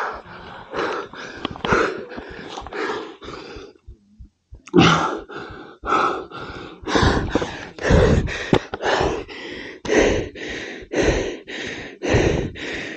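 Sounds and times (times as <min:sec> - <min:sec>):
person breathing hard: 0:00.0 - 0:04.0, 0:04.8 - 0:12.9.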